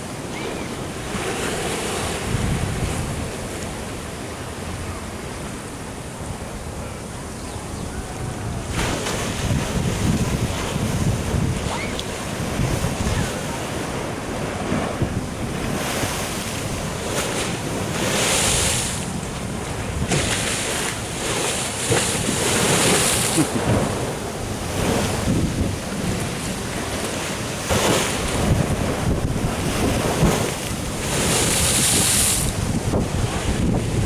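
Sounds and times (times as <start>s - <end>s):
wind buffeting microphone: 0.0s - 3.6s, 6.8s - 34.0s
surf washing against a sea wall: 0.0s - 6.8s, 8.1s - 34.0s.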